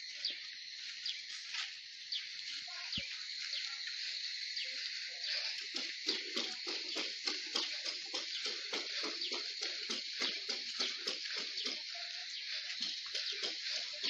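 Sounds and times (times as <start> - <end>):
footsteps on dirt road: 0.0 - 14.0
steady high hiss: 0.0 - 14.0.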